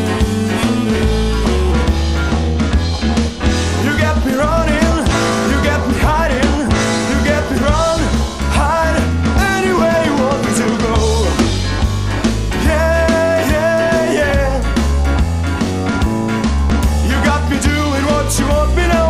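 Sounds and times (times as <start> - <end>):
blues-rock band playing: 0.0 - 19.0
sliding melodic lead line: 0.0 - 19.0.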